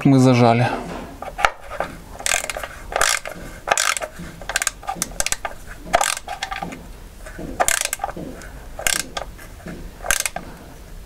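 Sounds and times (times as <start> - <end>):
hand ratchet clicking: 1.2 - 10.5.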